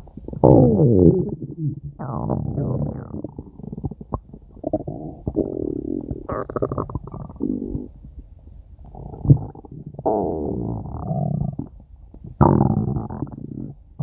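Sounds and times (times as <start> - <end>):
stomach growling: 0.2 - 7.9, 8.8 - 13.8.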